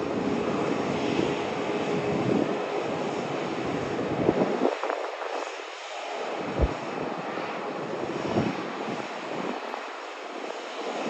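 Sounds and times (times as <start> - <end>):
airliner engines running: 0.0 - 11.0.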